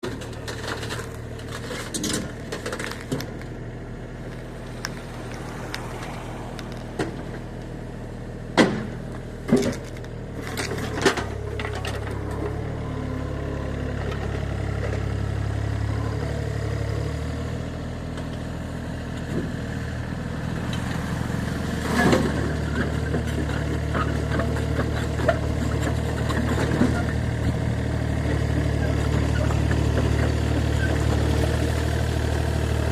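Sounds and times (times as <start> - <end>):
excavator engine running: 0.0 - 32.9.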